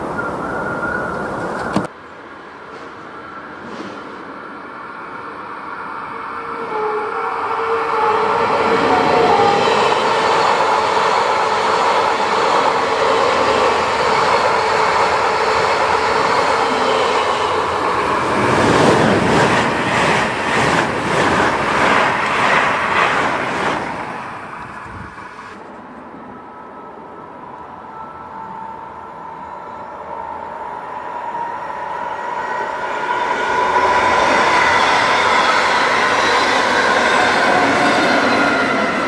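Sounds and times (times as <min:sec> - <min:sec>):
trains rumbling past: 0:00.0 - 0:39.0.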